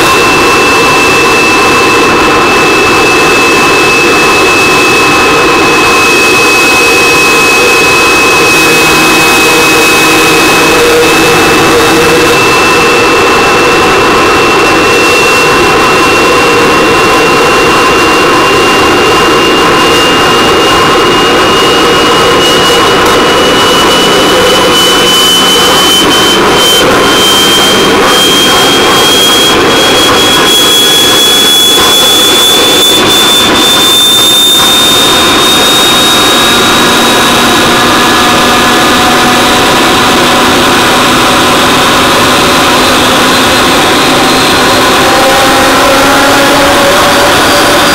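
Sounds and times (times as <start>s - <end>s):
small jet engine whining: 0.0s - 47.9s.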